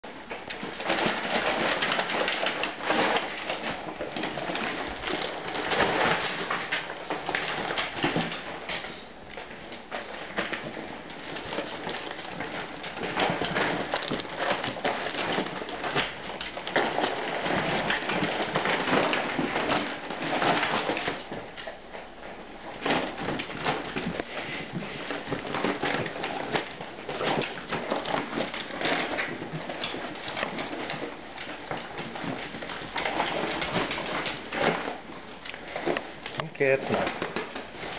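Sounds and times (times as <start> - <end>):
plastic bags crinkling: 0.0 - 37.9.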